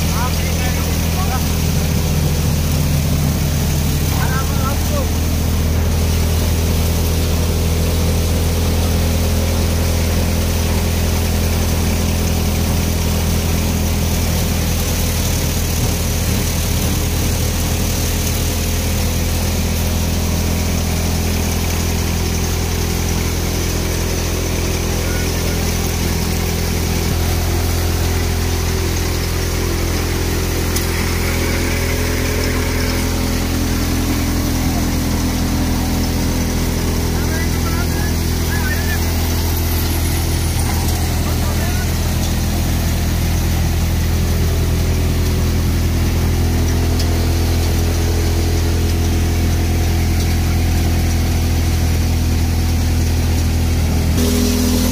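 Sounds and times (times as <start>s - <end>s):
thresher machine drone: 0.0s - 54.9s.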